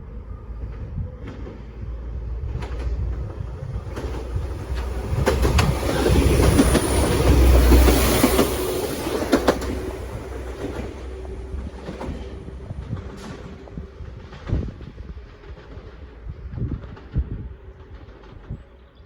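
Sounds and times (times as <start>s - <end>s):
train rumbling past: 0.0s - 19.0s
wheels clicking over rail joints: 2.4s - 18.7s.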